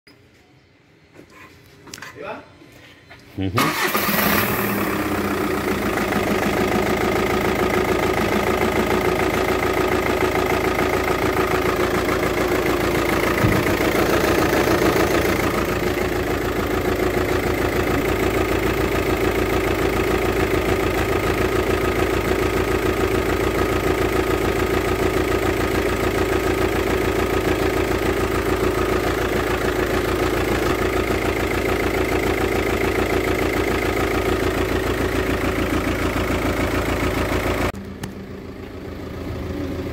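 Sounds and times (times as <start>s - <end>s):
diesel engine idling with pulsing: 3.7s - 39.9s.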